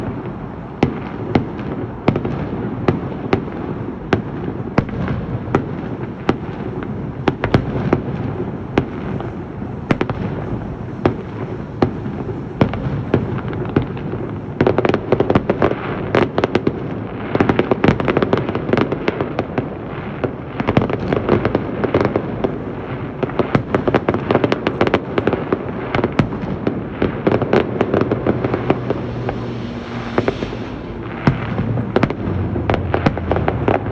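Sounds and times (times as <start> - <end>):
fireworks bangs: 0.0 - 33.9.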